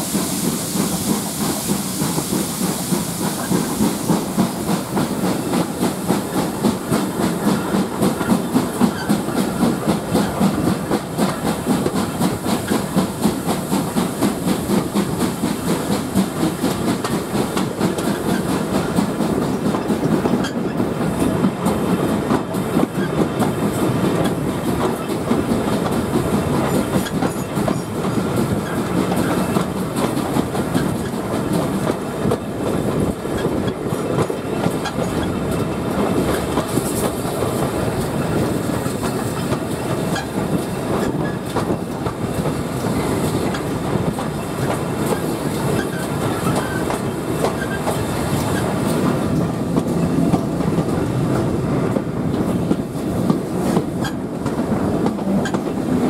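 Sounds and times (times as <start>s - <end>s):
clickety-clack over rail joints: 0.0s - 56.0s
train wheels rumbling on track: 0.0s - 56.0s.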